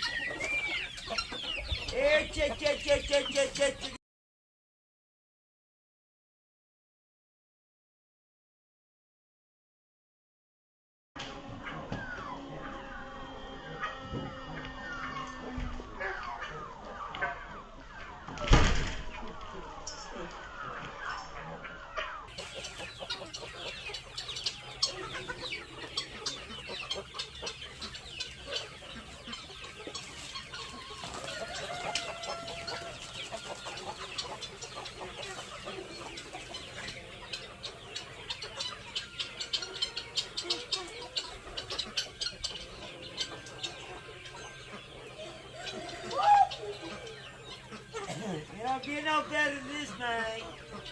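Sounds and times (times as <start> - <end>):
chickens clucking: 0.0 - 4.0, 11.2 - 50.9.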